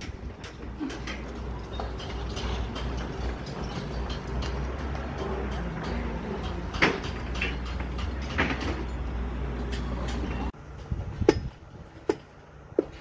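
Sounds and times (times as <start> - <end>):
sharp metal knocks: 0.0 - 9.0, 11.2 - 13.0
construction machinery rumbling: 0.0 - 13.0.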